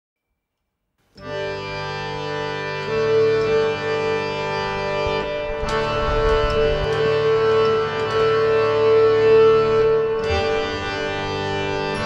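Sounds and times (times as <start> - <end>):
sustained held chord: 1.2 - 12.0.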